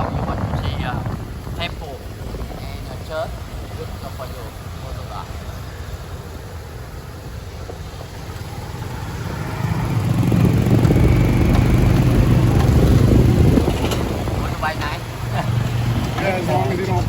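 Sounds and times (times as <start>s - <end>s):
city traffic noise: 0.0s - 17.0s
motorbike engine: 3.0s - 17.0s.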